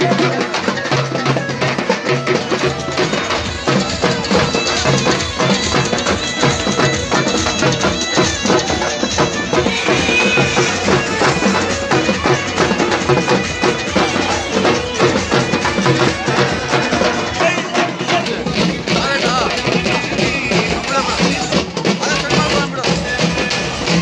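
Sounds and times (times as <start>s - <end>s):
frame drums beaten fast: 0.0s - 24.0s.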